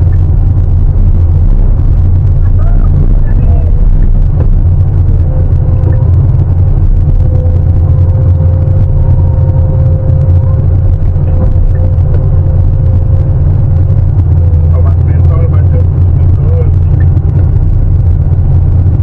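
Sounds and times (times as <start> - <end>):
excavator diesel engine rumbling: 0.0 - 19.0
faint steady whine: 0.0 - 19.0.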